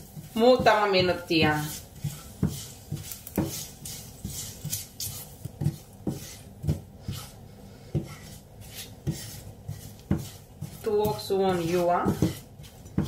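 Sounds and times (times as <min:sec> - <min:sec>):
wooden spatula scraping a frying pan: 0:00.0 - 0:13.0.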